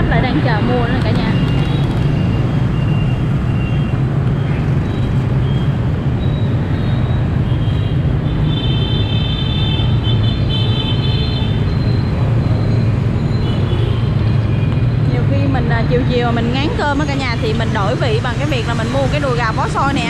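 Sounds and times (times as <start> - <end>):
motorbike traffic: 0.0 - 20.0.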